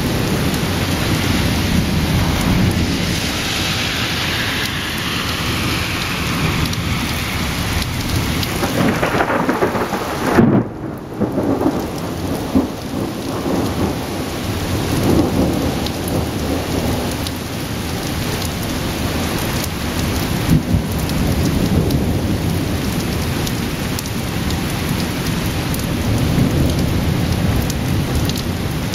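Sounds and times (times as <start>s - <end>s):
steady rain: 0.0s - 28.9s
thunder rumbling: 0.0s - 28.9s.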